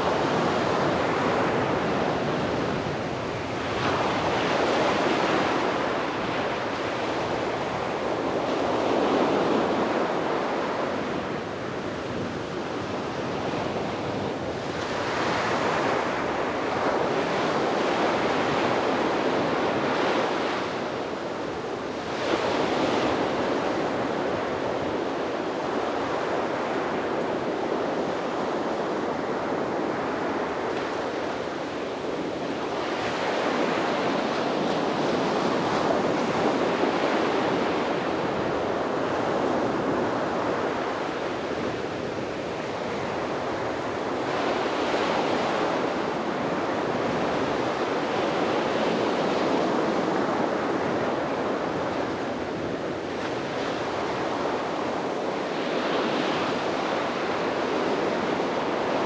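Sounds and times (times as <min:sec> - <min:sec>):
sea waves breaking on beach: 0:00.0 - 0:59.0
wind rumble on microphone: 0:00.0 - 0:59.0.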